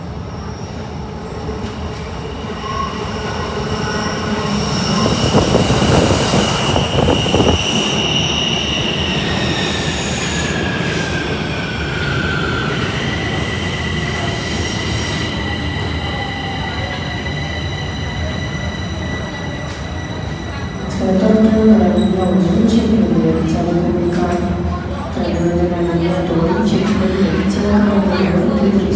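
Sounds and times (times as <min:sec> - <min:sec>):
metro train rumble: 0:00.0 - 0:28.9.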